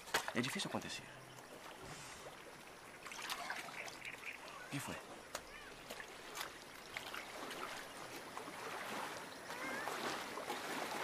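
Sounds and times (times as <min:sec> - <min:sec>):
small splashes: 0:00.0 - 0:11.0
water trickling and lapping: 0:00.0 - 0:11.0.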